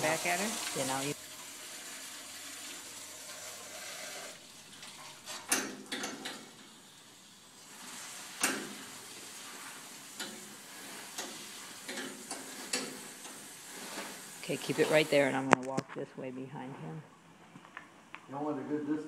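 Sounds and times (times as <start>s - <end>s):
hissing water spray: 0.0s - 15.4s.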